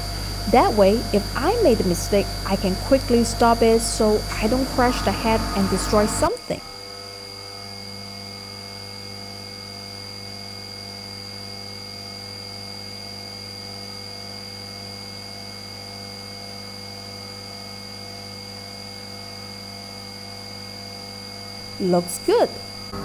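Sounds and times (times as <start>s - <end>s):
milling machine hum and whine: 0.0s - 23.0s.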